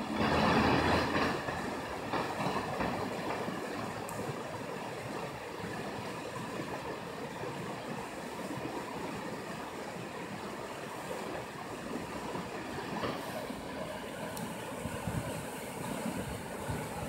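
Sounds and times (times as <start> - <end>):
flooded creek water rushing: 0.0 - 17.0.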